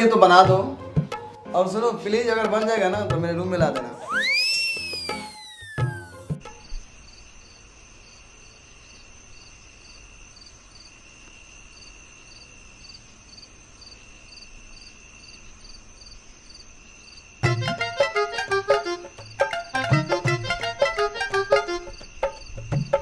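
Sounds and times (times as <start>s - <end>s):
crickets chirping: 4.0s - 23.0s.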